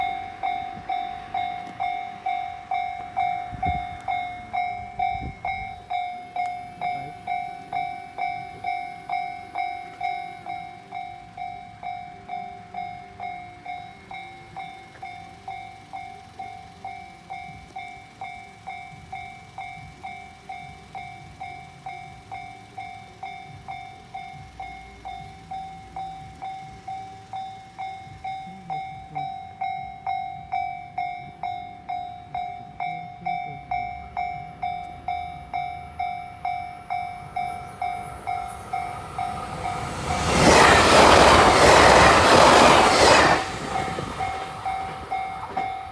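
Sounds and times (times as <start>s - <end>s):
level-crossing warning bell ringing: 0.0s - 45.9s.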